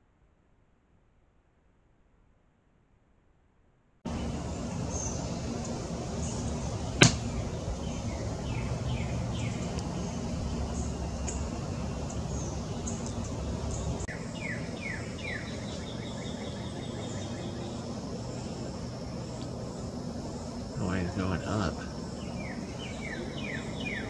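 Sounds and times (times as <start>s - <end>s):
wild birds singing: 4.1s - 24.0s.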